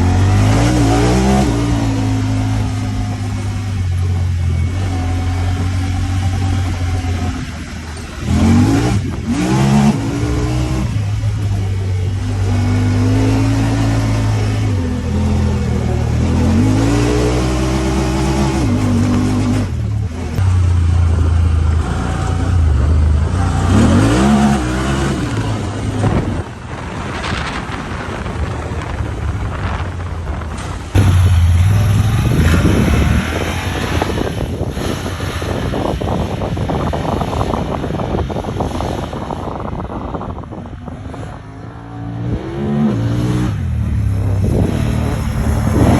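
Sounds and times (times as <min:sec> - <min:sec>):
off-road vehicle engine revving: 0:00.0 - 0:45.9
wind and tyre noise: 0:00.0 - 0:45.9.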